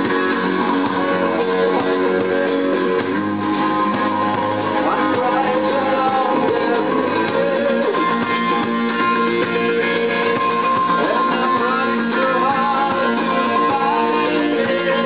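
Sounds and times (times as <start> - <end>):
live rock band playing: 0.0 - 15.0
strummed guitars: 0.0 - 15.0.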